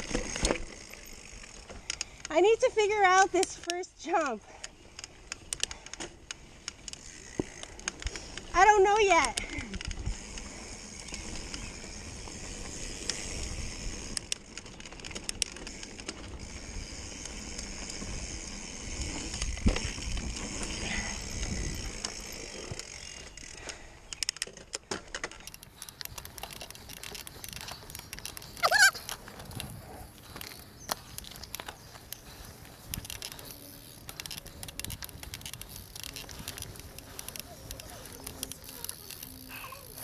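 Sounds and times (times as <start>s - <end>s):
bike parts rattling: 0.0s - 40.0s
bike tyres rolling over dirt: 0.0s - 40.0s.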